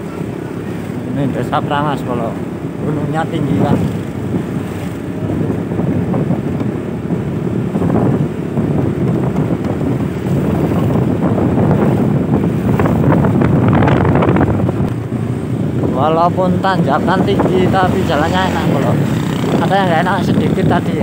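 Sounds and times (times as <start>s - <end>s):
vehicle engine running: 0.0s - 21.0s
wind buffeting microphone: 0.0s - 21.0s.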